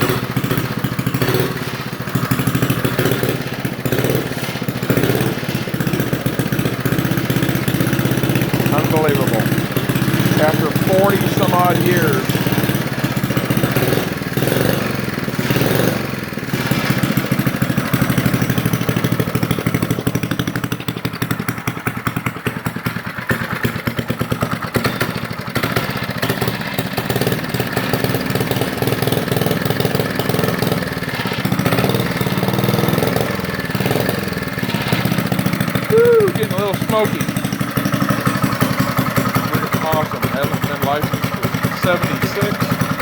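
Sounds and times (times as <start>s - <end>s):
minibike engine running: 0.0s - 43.0s.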